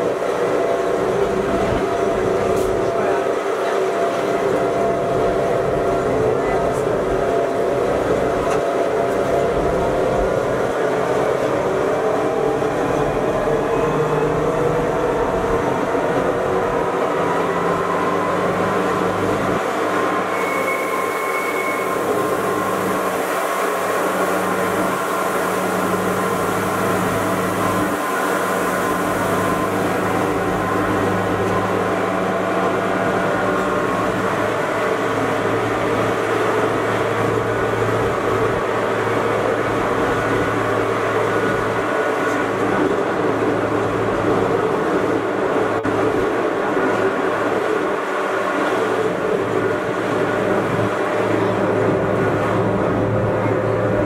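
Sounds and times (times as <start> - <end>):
train motor hum and whine: 0.0 - 54.0
wheels rumbling on rails: 0.0 - 54.0.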